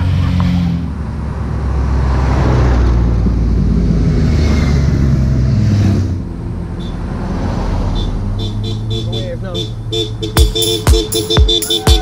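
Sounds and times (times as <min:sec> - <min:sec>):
cars and motorcycles passing: 0:00.0 - 0:12.0.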